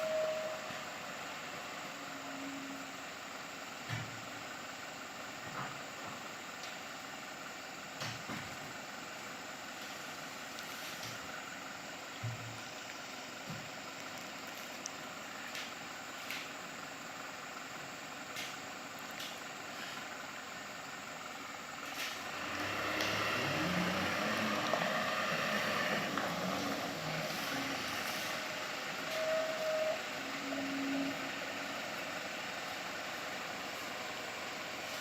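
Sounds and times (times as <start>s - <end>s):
truck engine running: 0.0s - 35.0s.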